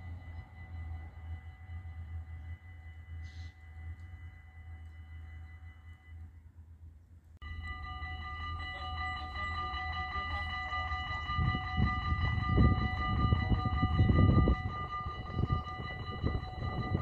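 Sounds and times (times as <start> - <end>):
level-crossing warning bells ringing: 0.0 - 6.6, 7.4 - 17.0
strong low rumble: 0.0 - 17.0.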